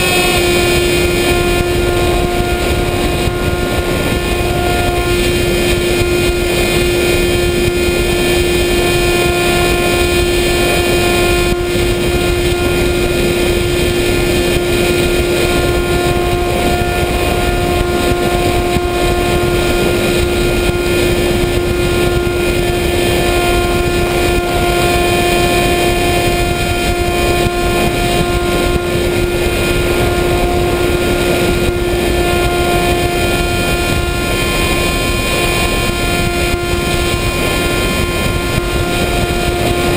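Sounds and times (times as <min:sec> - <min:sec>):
model aircraft motor and propeller: 0:00.0 - 0:39.9
rushing wind noise: 0:00.0 - 0:39.9.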